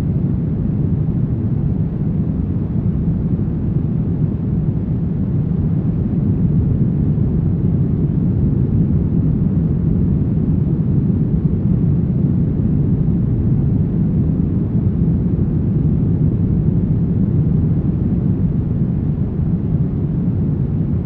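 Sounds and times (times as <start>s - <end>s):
deep rumbling brown noise: 0.0s - 21.0s.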